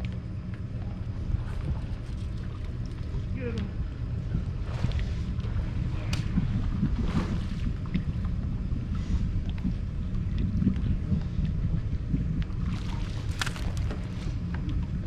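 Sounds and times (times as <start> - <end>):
wind buffeting microphone: 0.9 - 15.0.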